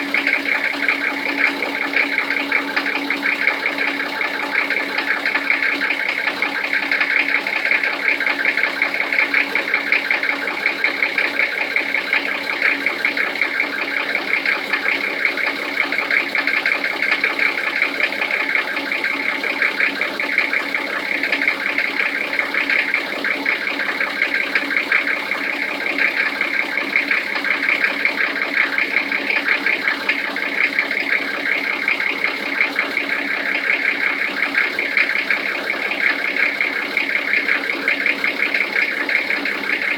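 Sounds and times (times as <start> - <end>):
diesel engine idling with knock: 0.0 - 39.9.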